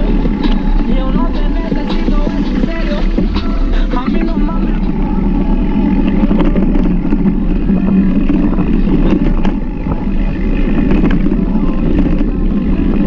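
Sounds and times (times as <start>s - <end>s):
bike clicks and rattles: 0.0s - 13.0s
wind and tyre rumble: 0.0s - 13.0s.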